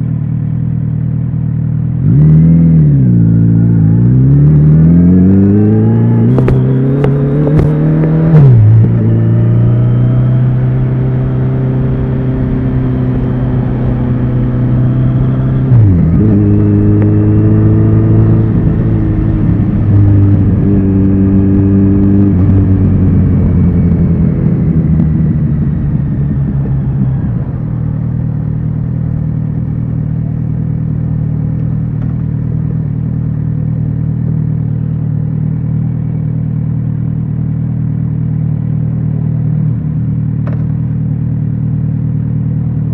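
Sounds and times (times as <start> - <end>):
motorcycle engine and exhaust: 0.0 - 42.9.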